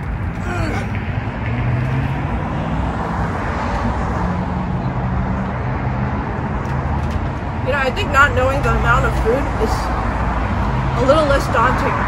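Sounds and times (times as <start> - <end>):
traffic rushing: 0.0 - 12.0.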